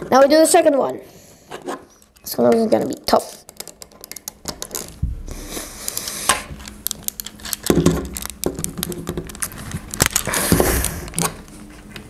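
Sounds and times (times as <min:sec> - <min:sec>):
plastic parts clicking and rattling: 0:01.5 - 0:11.5.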